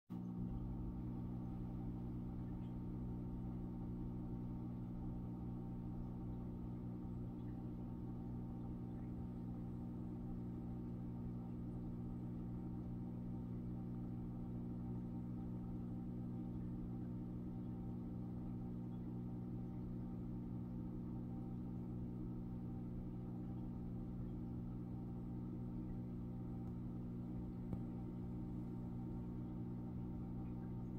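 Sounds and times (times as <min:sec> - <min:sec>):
low electrical hum: 0:00.1 - 0:30.9.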